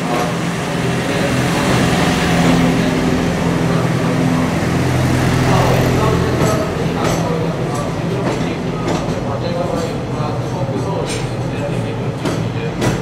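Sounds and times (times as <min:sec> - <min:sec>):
freight wagons rumbling past: 0:00.0 - 0:10.4, 0:11.4 - 0:13.0.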